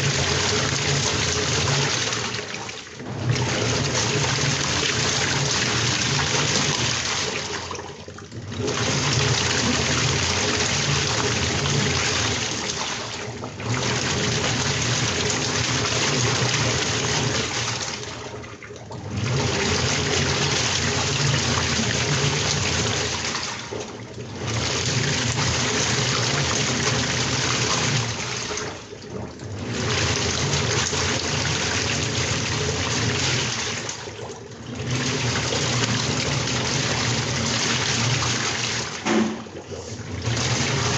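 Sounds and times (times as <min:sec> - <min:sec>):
washing machine sloshing water: 0:00.0 - 0:40.9.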